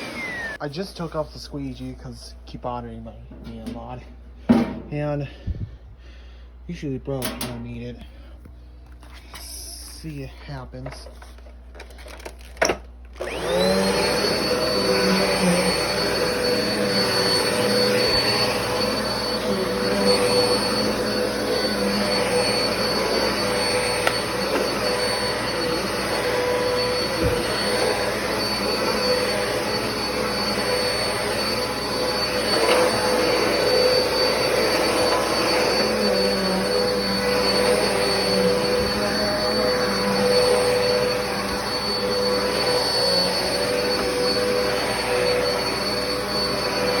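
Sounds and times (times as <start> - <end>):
vacuum cleaner motor whining: 0.0 - 1.9, 8.9 - 47.0.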